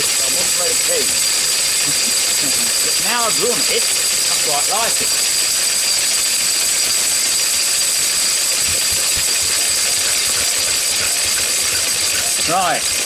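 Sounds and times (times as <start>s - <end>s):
stationary engine running: 0.0s - 13.0s.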